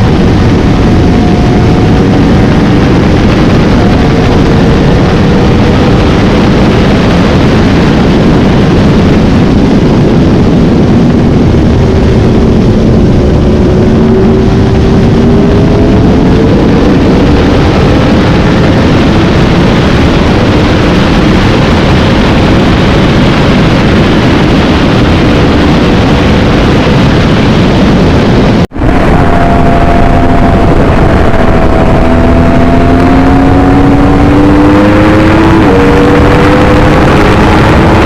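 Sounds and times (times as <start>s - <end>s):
motorcycle engine running: 0.0s - 38.0s
wind noise: 0.0s - 38.0s.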